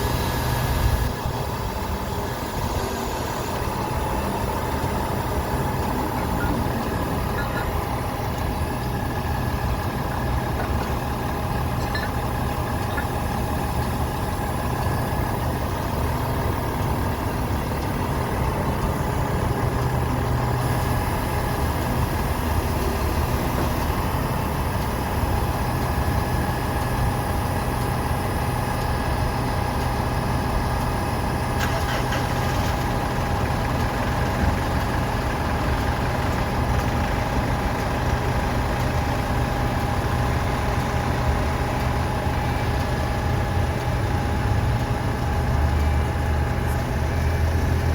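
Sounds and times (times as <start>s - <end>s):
truck diesel engine idling: 0.0s - 47.9s.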